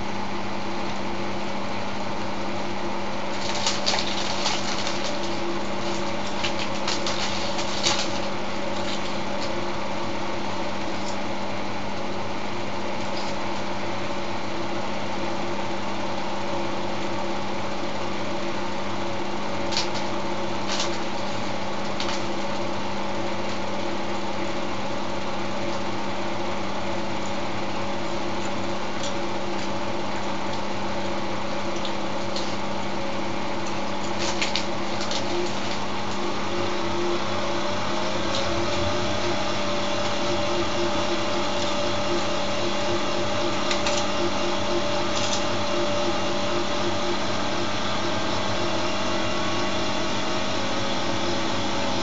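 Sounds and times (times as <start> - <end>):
washing machine motor humming: 0.0 - 52.0.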